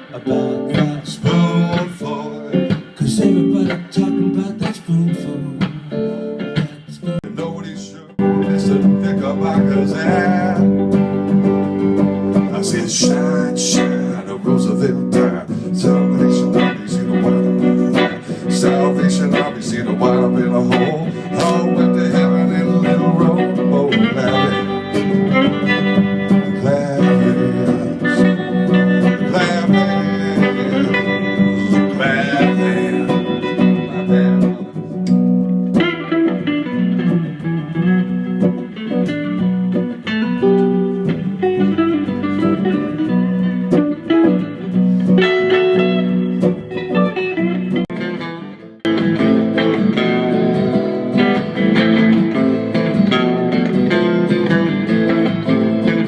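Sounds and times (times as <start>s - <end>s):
live blues band with electric guitar: 0.0s - 56.0s.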